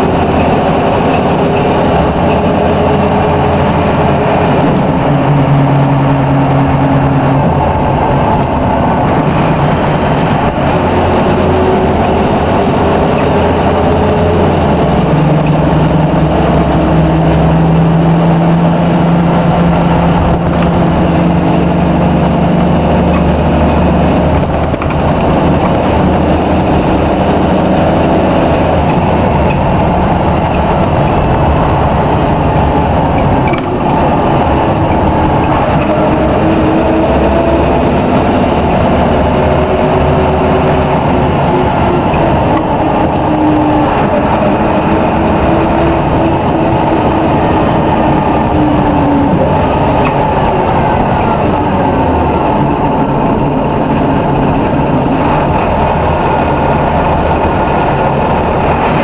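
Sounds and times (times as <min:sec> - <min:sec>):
bus diesel engine running: 0:00.0 - 0:59.0
road noise: 0:00.0 - 0:59.0.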